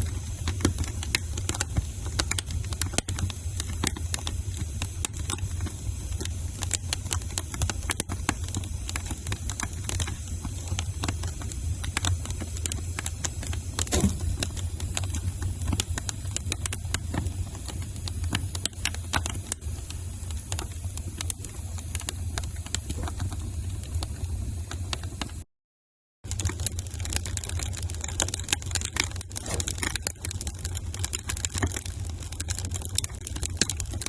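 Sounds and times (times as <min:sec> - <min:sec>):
low rumble of flames: 0:00.0 - 0:25.4, 0:26.2 - 0:34.0
wood fire pops and snaps: 0:00.0 - 0:25.4, 0:26.3 - 0:34.0.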